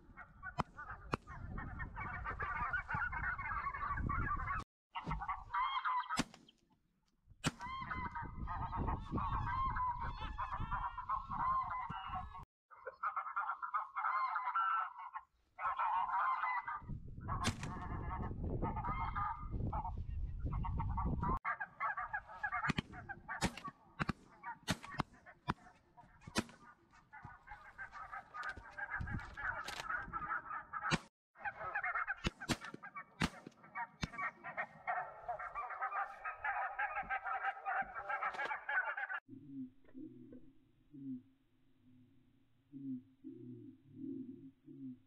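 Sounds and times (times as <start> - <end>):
geese honking: 0.0 - 6.2, 7.6 - 39.2.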